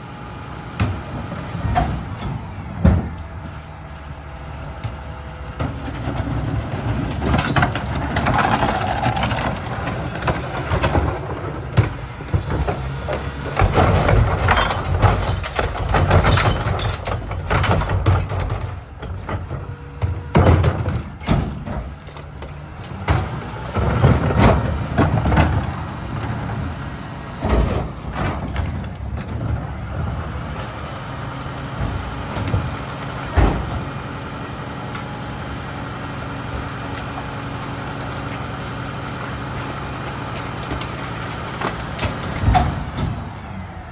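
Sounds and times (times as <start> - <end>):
clanks and bangs of refuse loading: 0.0 - 43.9
garbage truck running: 0.0 - 43.9.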